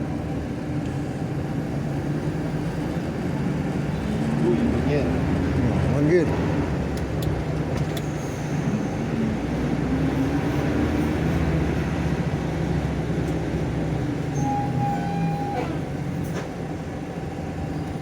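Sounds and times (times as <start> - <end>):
bus engine droning: 0.0 - 18.0
road and tyre noise: 0.0 - 18.0.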